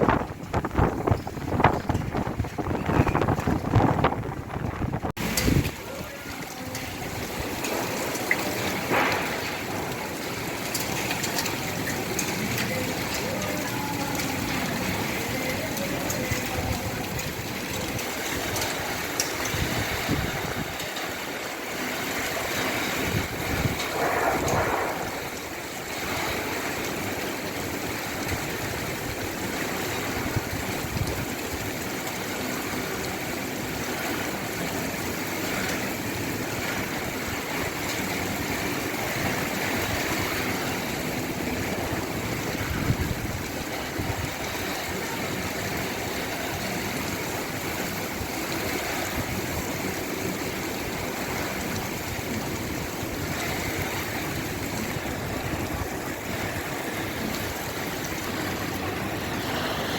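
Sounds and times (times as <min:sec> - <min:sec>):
torrential rain pouring: 0:00.0 - 0:59.9.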